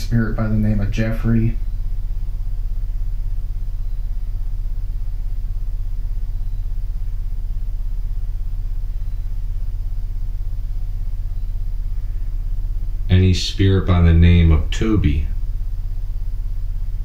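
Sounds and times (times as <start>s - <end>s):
recorder background hum with flutter: 0.0s - 17.0s.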